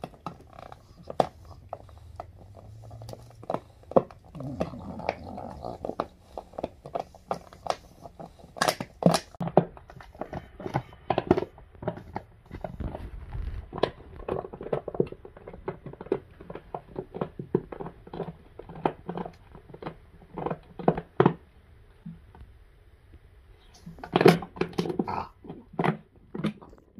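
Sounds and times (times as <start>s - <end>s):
dog chewing plastic bottle: 0.0s - 22.4s, 23.8s - 26.9s.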